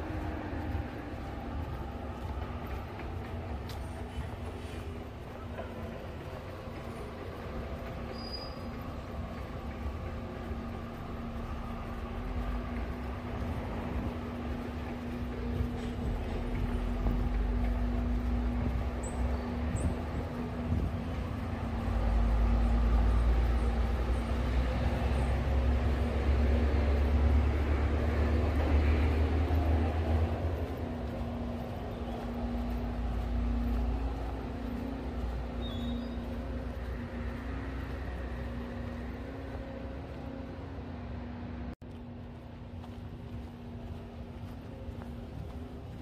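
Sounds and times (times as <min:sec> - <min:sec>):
vehicle passing with low rumble: 0:00.0 - 0:46.0.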